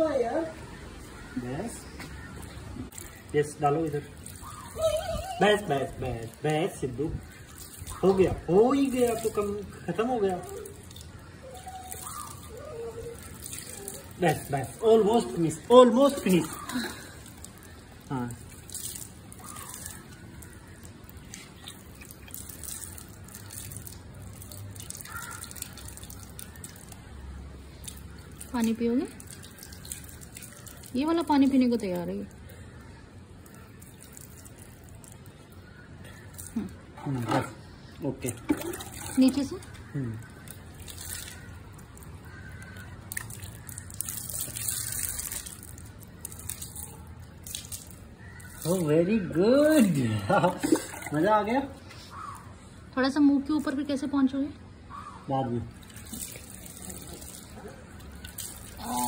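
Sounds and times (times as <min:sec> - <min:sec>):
water dripping on floor: 0:00.1 - 0:59.0.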